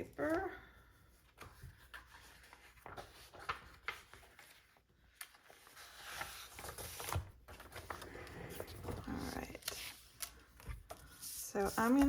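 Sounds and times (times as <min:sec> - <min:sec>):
paper rustling: 0:01.2 - 0:12.0.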